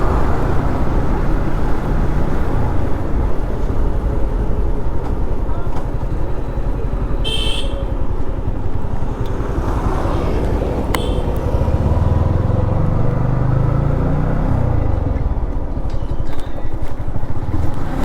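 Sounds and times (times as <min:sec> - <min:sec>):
deeper steady drone: 0:00.0 - 0:16.0
motorcycle engine running: 0:00.0 - 0:18.0.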